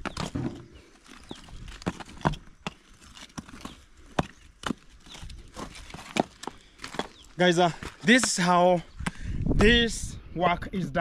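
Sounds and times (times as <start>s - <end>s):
stones clacking together: 0.0s - 9.8s.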